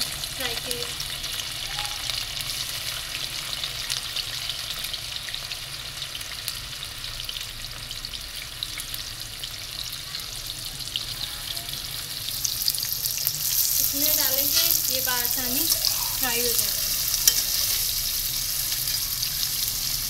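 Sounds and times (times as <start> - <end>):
vegetable slices frying in oil: 0.0 - 20.0.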